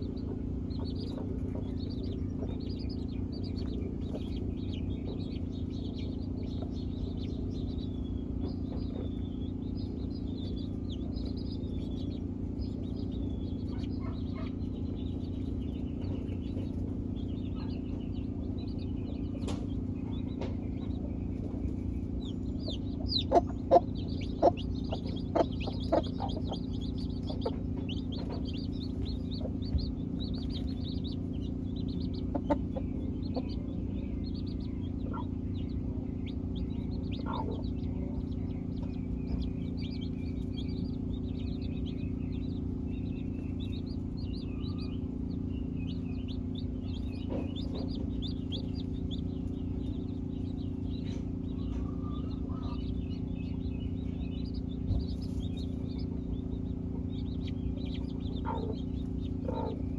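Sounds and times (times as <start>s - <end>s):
baby chicks peeping: 0.0s - 59.9s
steady low hum: 0.0s - 59.9s.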